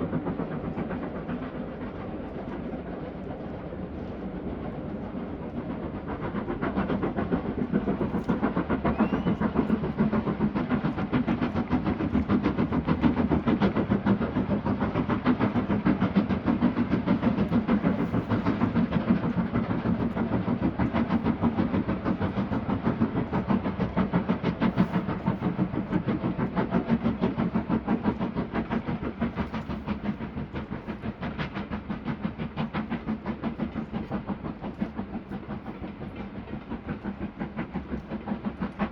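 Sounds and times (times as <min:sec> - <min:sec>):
steam train passing: 0:00.0 - 0:38.9.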